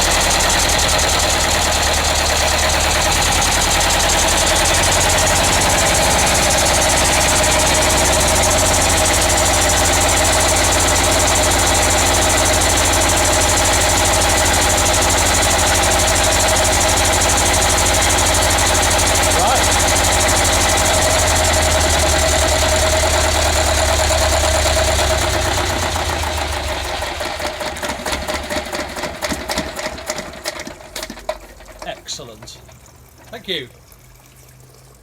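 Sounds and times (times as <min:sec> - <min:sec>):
marine diesel engine running: 0:00.0 - 0:33.8.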